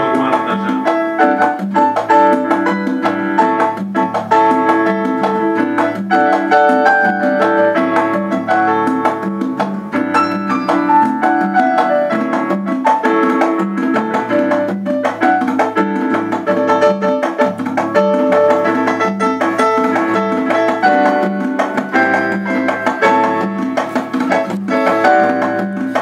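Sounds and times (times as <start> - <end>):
instrumental melody: 0.0 - 26.0
percussion beat: 0.0 - 26.0.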